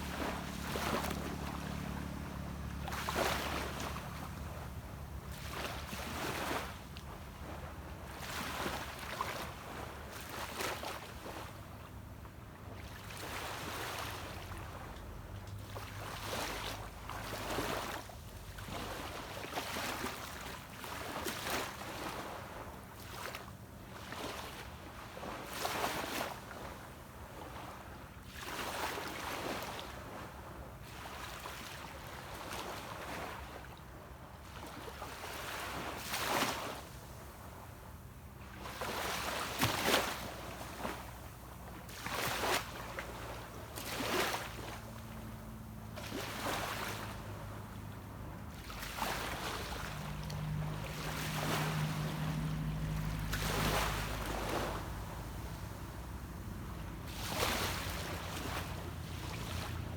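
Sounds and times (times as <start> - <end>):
distant boat engine hum: 0.0 - 59.9
small waves breaking on beach: 0.0 - 59.9.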